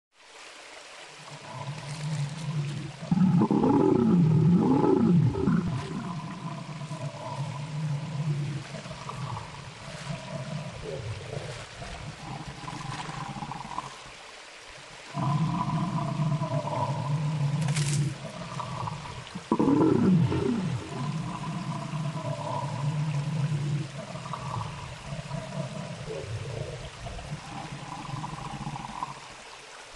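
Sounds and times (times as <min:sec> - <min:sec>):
steady background hiss: 0:00.2 - 0:29.9
low pitched animal calls: 0:01.2 - 0:14.0, 0:15.1 - 0:29.3.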